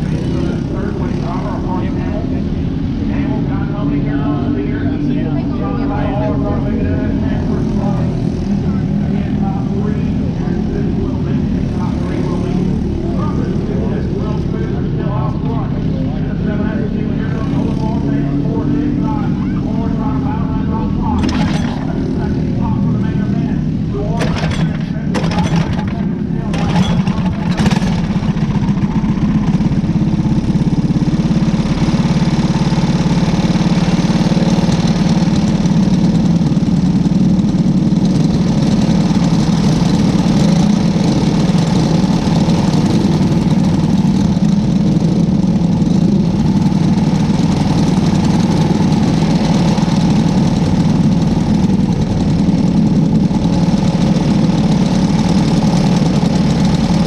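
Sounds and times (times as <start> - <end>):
race car engine droning: 0.0 - 57.0.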